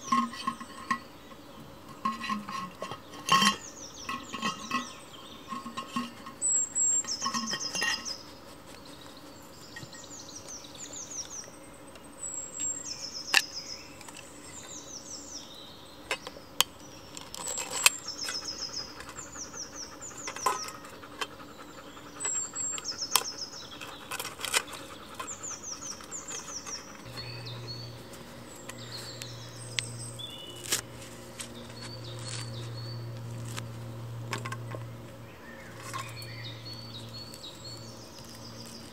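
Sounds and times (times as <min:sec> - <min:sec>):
low steady hum: 0:00.0 - 0:38.9
songbirds singing: 0:00.0 - 0:38.9.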